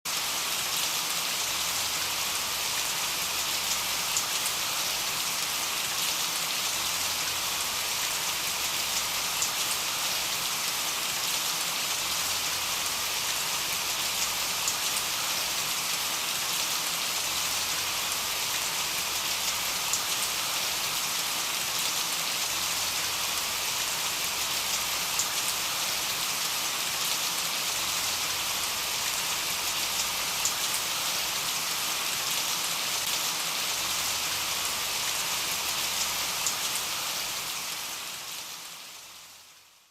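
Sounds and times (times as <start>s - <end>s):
rain hissing on surfaces: 0.1s - 39.9s.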